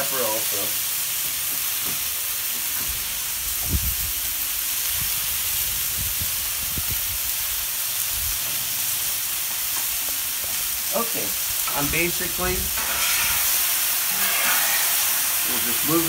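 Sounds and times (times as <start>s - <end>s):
chicken and onions sizzling: 0.0s - 16.0s.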